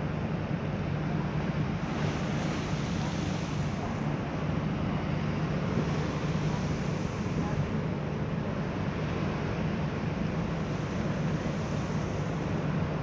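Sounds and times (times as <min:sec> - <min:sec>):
ship engines droning: 0:00.0 - 0:13.0
water wash: 0:00.0 - 0:13.0.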